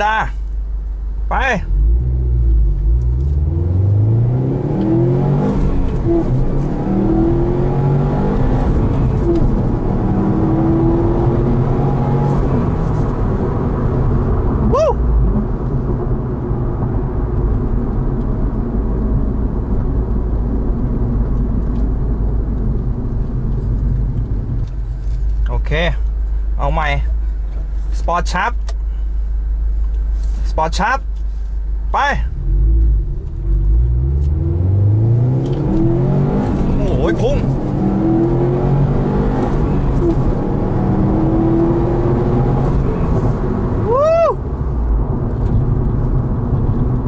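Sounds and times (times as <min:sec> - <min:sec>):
car engine cruising drone: 0:00.0 - 0:47.0
car engine accelerating: 0:01.6 - 0:26.4, 0:32.3 - 0:47.0.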